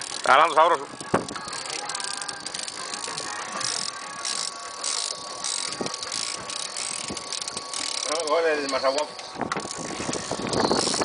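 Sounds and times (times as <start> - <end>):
fishing reel gears rattling: 0.0 - 11.0.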